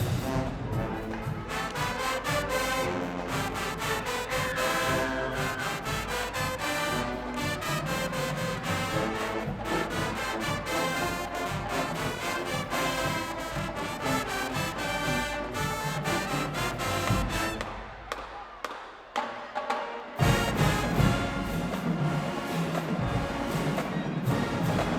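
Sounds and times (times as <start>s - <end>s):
brass section playing: 0.0s - 18.1s, 20.0s - 24.9s
drumline beat: 0.0s - 24.9s.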